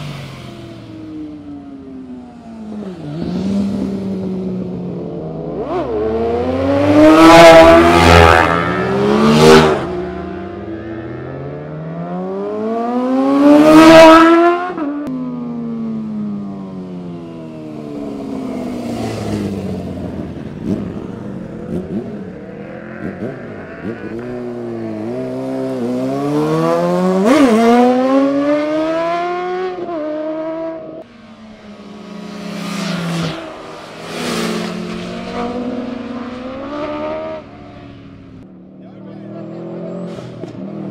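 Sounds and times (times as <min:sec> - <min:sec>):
car passing: 0:00.0 - 0:15.0, 0:17.2 - 0:40.9
motorbikes accelerating past: 0:00.0 - 0:15.4, 0:17.0 - 0:40.9.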